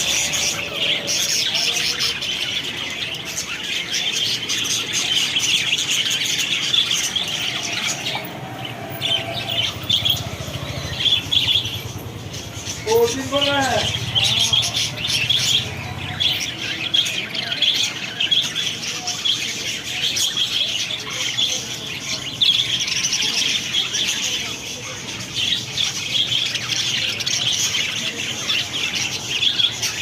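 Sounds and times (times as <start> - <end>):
budgerigar flock chattering: 0.0 - 30.0.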